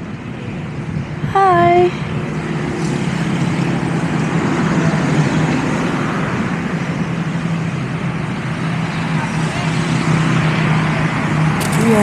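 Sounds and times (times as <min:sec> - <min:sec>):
road noise: 0:00.0 - 0:12.0
engine hum: 0:01.9 - 0:12.0.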